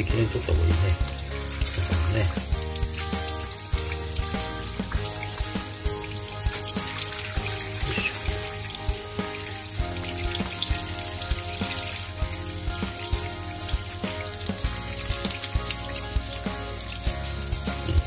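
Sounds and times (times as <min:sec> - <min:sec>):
background music with beat: 0:00.0 - 0:18.0
tap water splashing into sink: 0:00.0 - 0:18.0.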